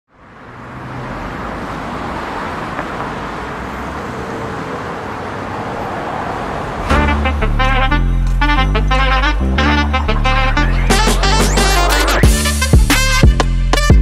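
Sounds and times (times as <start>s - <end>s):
road traffic hum: 0.1s - 13.6s.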